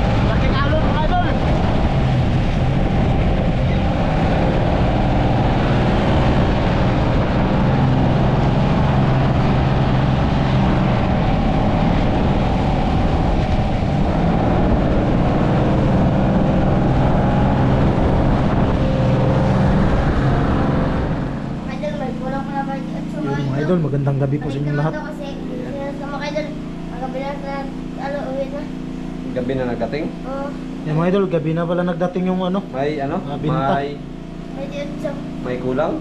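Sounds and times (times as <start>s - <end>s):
boat engine running: 0.0s - 36.0s
constant rushing noise: 0.0s - 36.0s.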